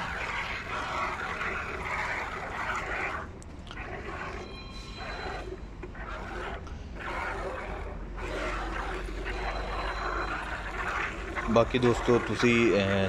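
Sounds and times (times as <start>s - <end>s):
milk jets hissing into bucket: 0.0s - 13.0s.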